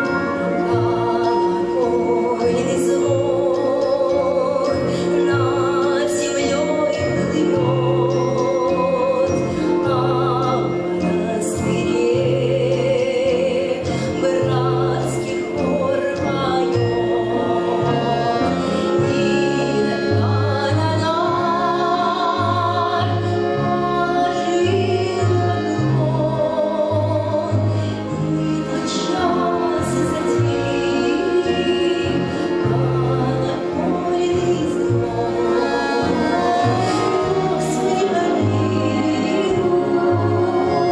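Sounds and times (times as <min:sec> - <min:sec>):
woman singing with vibrato: 0:00.0 - 0:27.9, 0:28.6 - 0:40.9
orchestra playing: 0:00.0 - 0:40.9.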